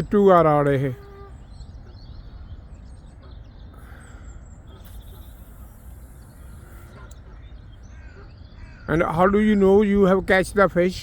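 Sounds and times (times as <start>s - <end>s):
faint bird chirps: 0.7s - 9.7s.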